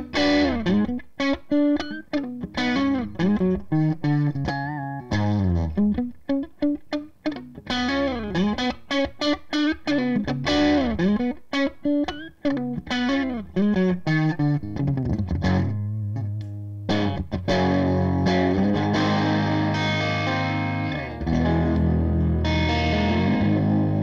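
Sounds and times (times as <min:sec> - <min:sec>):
overdriven electric guitar lead: 0:00.0 - 0:24.0.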